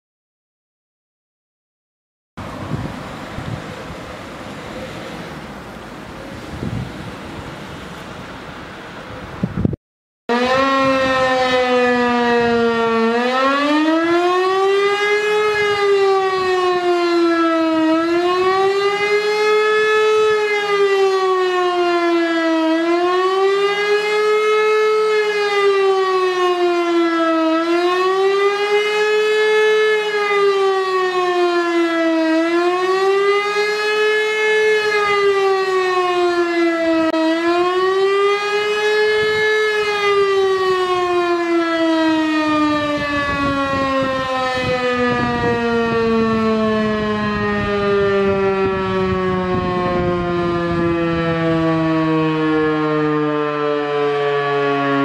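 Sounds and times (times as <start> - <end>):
siren wailing: 10.3 - 55.0.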